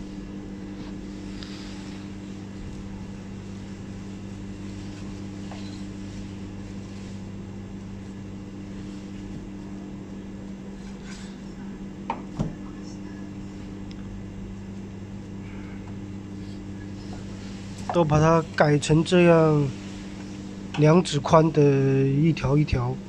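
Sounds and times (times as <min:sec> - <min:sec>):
kitchen machine hum: 0:00.0 - 0:23.0.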